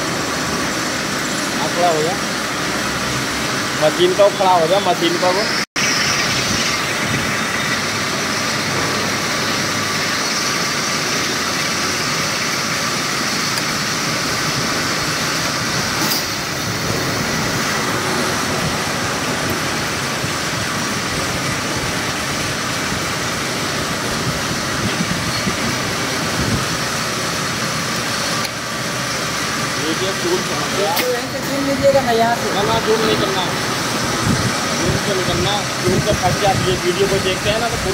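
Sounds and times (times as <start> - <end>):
lathe cutting metal: 0.0 - 37.9.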